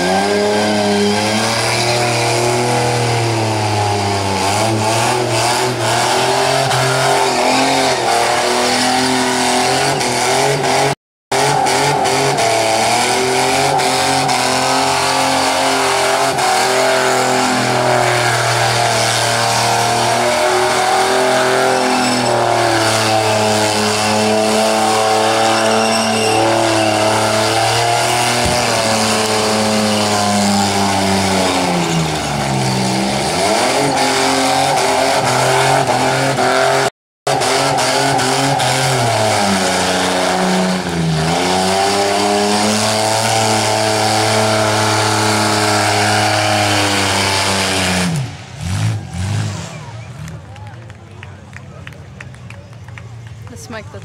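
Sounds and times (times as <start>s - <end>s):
car engine revving in burnout: 0.0s - 51.8s.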